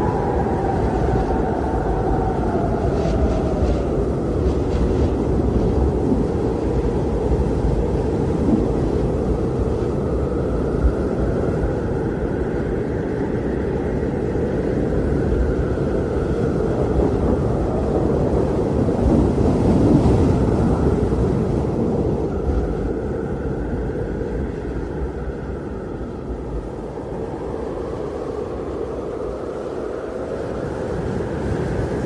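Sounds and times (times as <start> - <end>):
blizzard wind rushing: 0.0 - 32.0
faint high wind whistle: 0.0 - 32.0.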